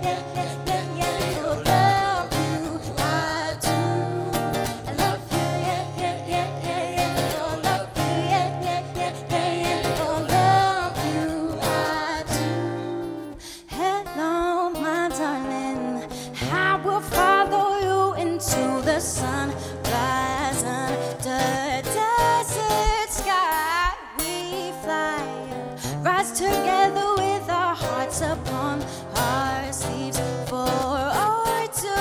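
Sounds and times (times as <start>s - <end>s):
acoustic guitar: 0.0s - 32.0s
person singing: 0.0s - 32.0s.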